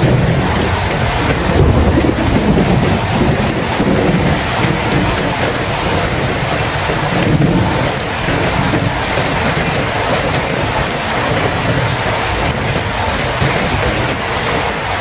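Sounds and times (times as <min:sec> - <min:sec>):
heavy rain: 0:00.0 - 0:15.0
low thunder rumble: 0:00.0 - 0:15.0.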